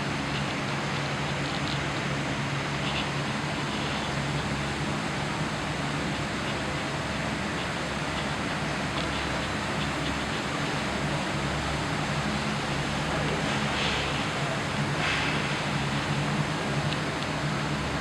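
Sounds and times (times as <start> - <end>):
heat pump fan rushing: 0.0 - 18.0.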